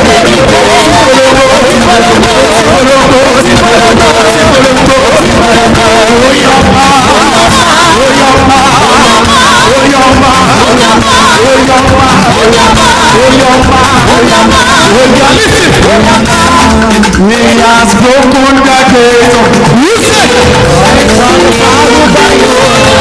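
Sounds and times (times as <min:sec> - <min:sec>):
church band playing praise music: 0:00.0 - 0:23.0
several voices singing: 0:00.0 - 0:23.0.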